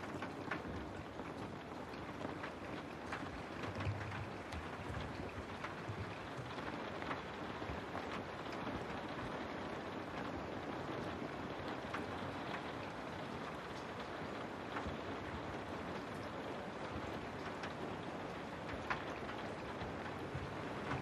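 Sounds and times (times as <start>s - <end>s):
sharp raindrop taps: 0.0s - 21.0s
steady rain falling: 0.0s - 21.0s.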